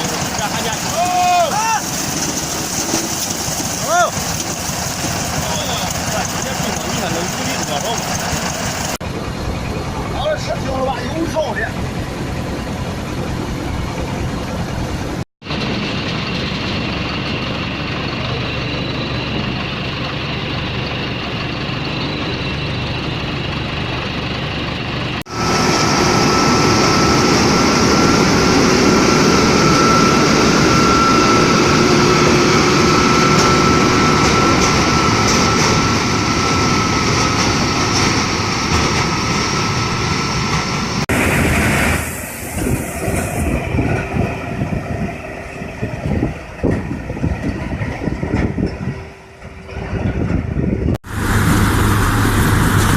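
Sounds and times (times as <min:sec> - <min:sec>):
harvester engine drone: 0:00.0 - 0:52.9.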